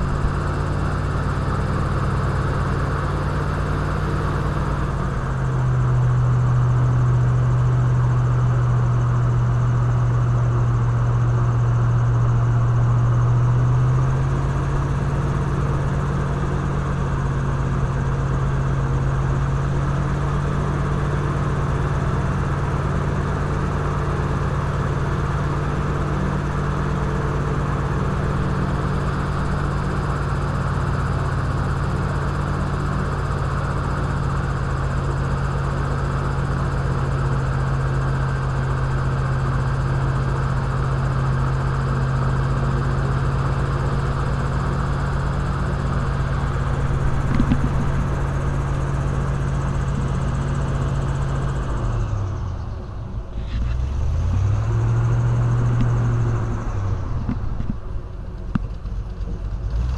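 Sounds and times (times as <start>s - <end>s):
airboat engine and propeller droning: 0.0s - 59.9s.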